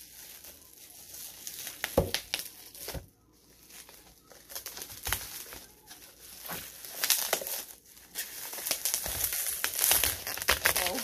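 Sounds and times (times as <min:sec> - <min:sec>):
bubble wrap crackles: 0:00.0 - 0:11.0
bubble wrap crinkling: 0:00.0 - 0:11.0.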